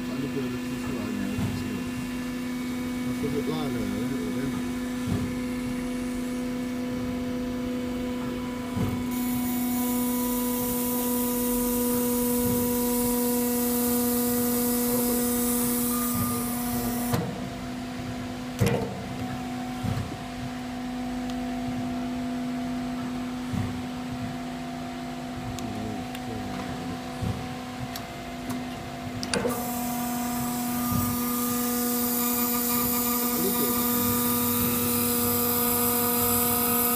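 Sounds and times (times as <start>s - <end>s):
machine electric hum: 0.0s - 36.9s.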